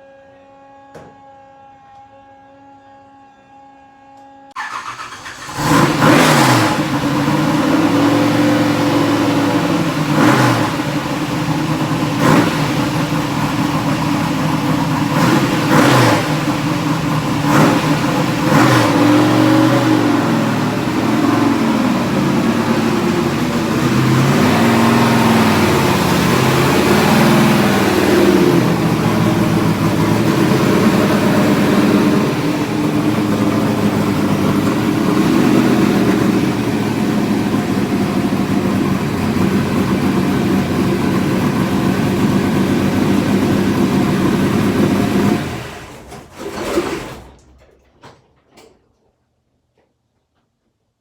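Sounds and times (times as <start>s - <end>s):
race car engine revving: 4.6s - 47.4s.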